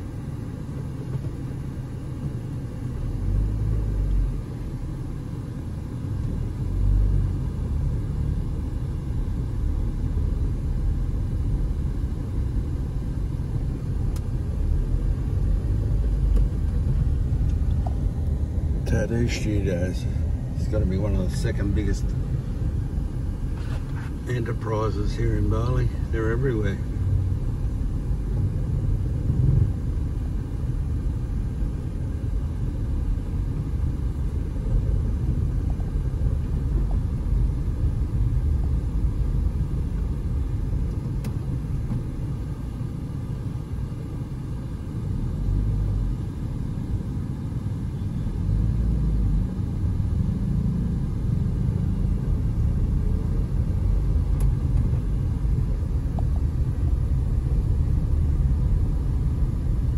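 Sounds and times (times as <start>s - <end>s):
car engine and tyres rumble: 0.0s - 59.9s.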